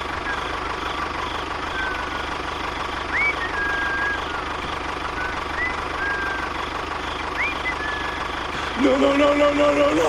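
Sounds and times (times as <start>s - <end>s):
small engine knocking steadily: 0.0s - 10.0s
whistle-like chirps: 0.2s - 8.4s.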